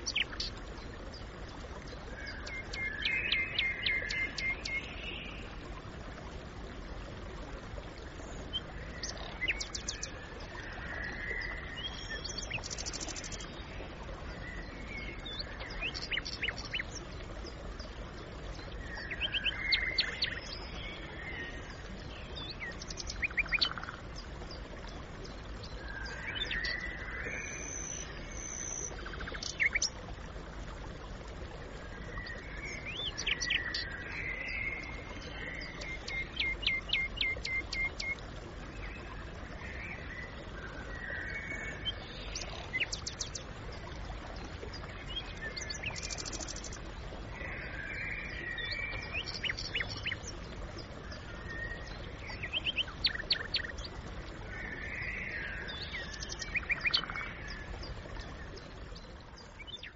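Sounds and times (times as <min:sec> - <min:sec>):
low background hiss: 0:00.0 - 0:59.9.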